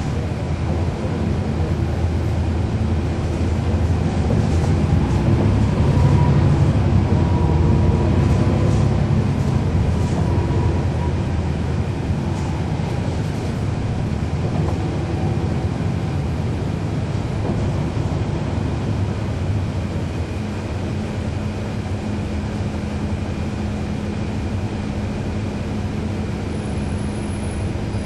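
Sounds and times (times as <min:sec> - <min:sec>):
bus diesel engine rumble: 0:00.0 - 0:28.0.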